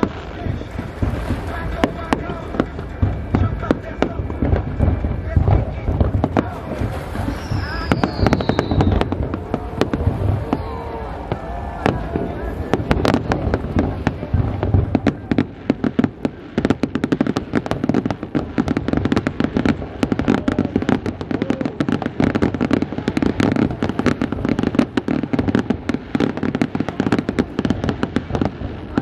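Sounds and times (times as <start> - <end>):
fireworks cracking and popping: 0.0 - 29.0.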